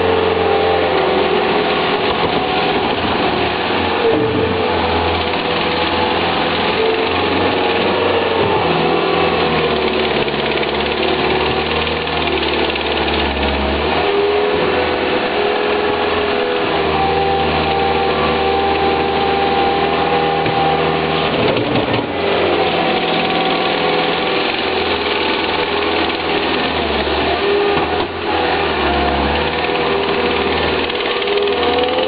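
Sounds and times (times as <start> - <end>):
loader engine running under load: 0.0 - 32.0.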